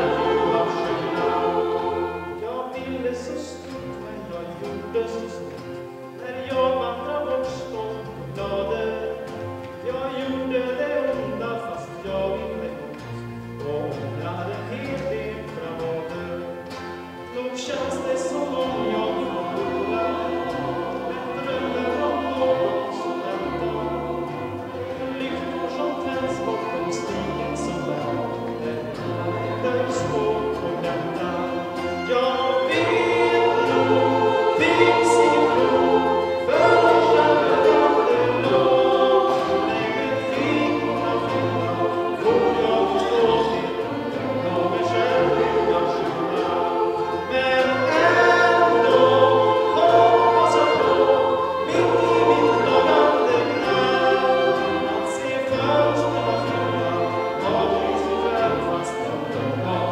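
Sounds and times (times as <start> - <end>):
mixed choir singing: 0.0 - 5.4, 17.3 - 59.9.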